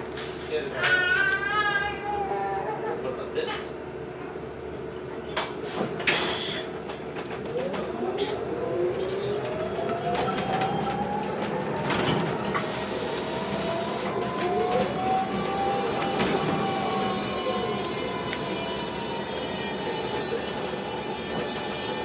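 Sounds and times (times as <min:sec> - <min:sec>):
bus accelerating with rising whine: 0:03.9 - 0:22.0.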